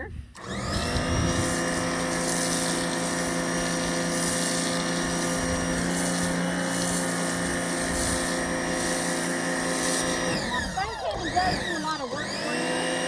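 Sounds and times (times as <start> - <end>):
pressure washer pump hum: 0.0 - 13.0
water spray hissing: 0.8 - 12.0.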